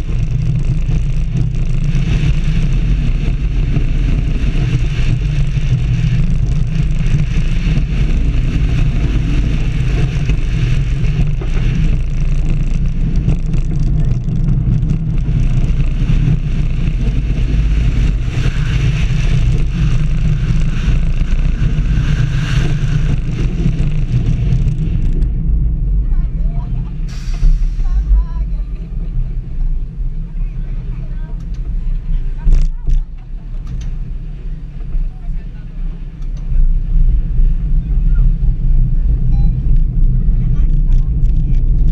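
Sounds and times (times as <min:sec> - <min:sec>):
roller coaster wheels rumbling on track: 0:00.0 - 0:41.9
wind rushing over microphone: 0:00.0 - 0:41.9.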